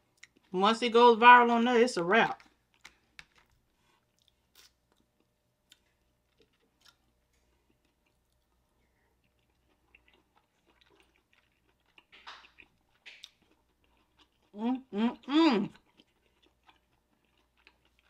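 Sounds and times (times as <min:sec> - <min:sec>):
chewing soft dumpling: 0:00.0 - 0:00.6, 0:02.4 - 0:18.0.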